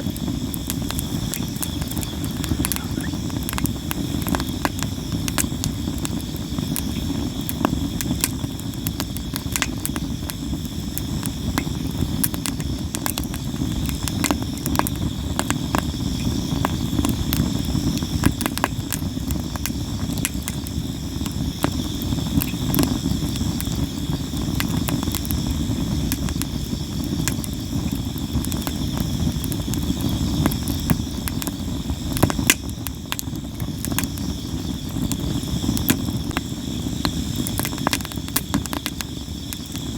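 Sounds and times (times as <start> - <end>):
campfire crackling and popping: 0.0 - 39.9
insects chirping: 0.0 - 39.9.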